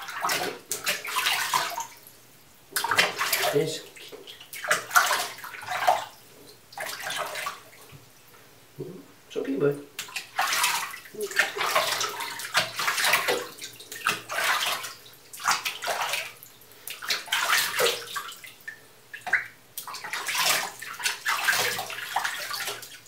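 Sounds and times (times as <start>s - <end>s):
bathwater splashing: 0.0s - 8.0s, 9.9s - 23.0s.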